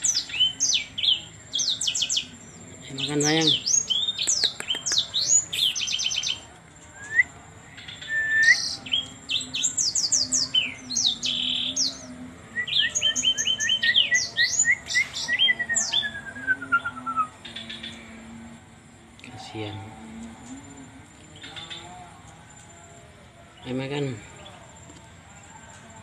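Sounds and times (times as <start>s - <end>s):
faint low hum: 0.0s - 26.0s
songbird singing: 0.0s - 26.0s.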